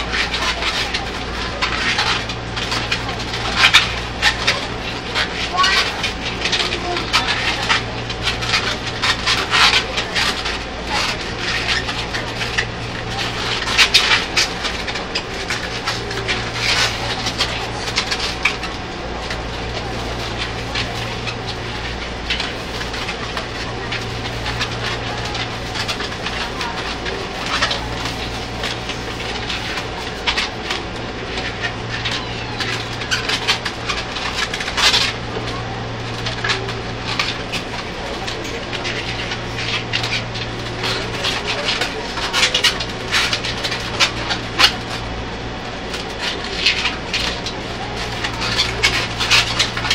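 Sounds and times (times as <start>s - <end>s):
balloons squeaking: 0.0s - 45.1s.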